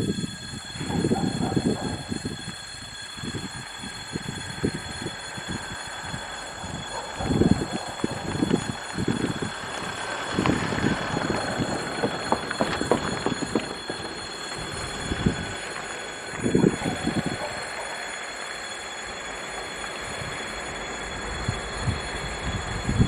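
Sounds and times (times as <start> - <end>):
crossing warning bell ringing: 0.0 - 23.0
diesel locomotive engine rumbling: 0.0 - 23.0.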